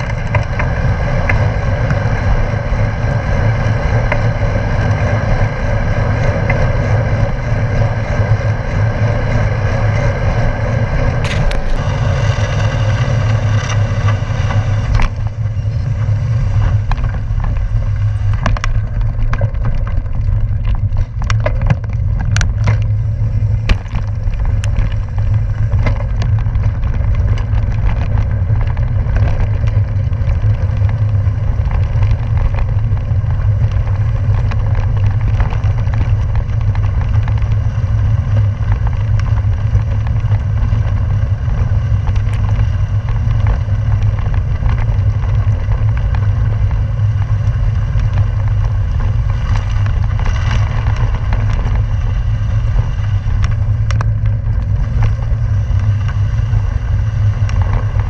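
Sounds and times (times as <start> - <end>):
bicycle tyres rumbling on gravel: 0.0 - 58.0
stones and bike rattling: 0.0 - 58.0.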